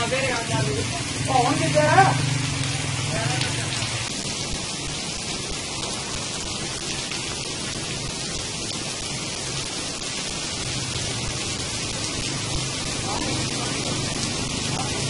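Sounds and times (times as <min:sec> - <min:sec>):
heavy rain on road: 0:00.0 - 0:15.0.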